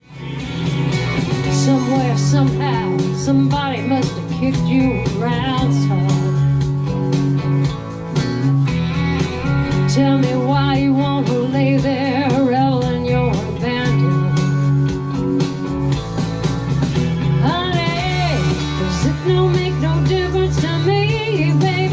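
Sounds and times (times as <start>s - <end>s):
blues-rock band playing: 0.0s - 21.9s.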